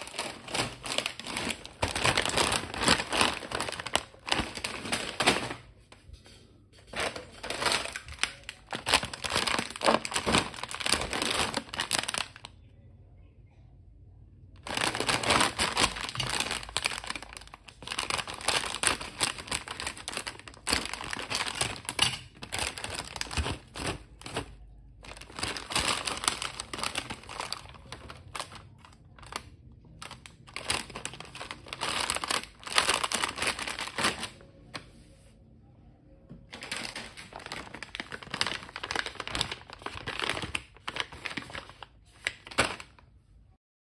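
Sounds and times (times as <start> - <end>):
snack packets crinkling: 0.0 - 5.8, 6.9 - 12.5, 14.6 - 34.4, 36.5 - 43.0.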